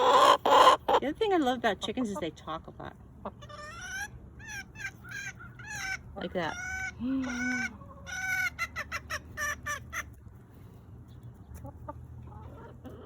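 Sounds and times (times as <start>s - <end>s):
hen clucking: 0.0s - 10.4s, 11.1s - 13.0s.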